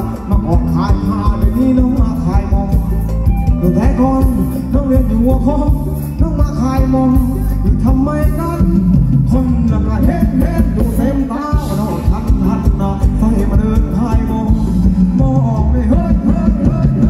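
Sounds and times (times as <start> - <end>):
live band dance music: 0.0 - 17.0
person singing: 0.0 - 17.0.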